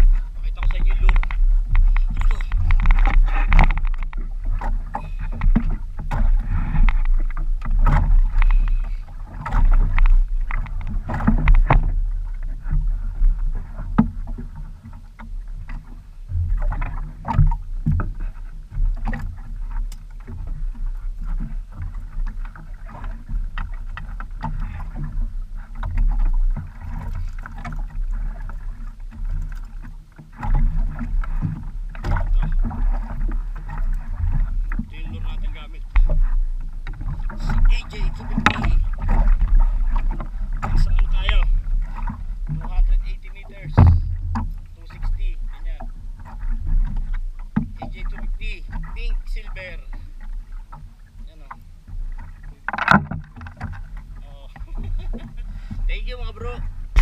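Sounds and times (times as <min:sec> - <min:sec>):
knocks and clicks on boat: 0:00.0 - 0:57.0
water and wind against hull: 0:00.0 - 0:57.0.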